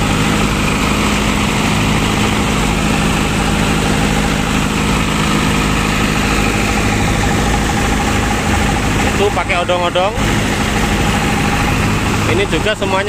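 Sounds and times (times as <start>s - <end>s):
generator engine drone: 0.0s - 13.0s.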